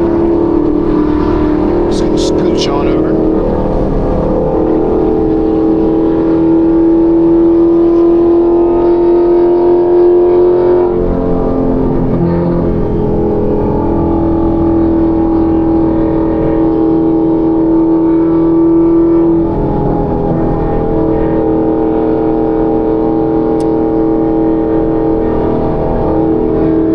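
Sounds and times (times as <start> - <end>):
car driving drone: 0.0 - 26.9.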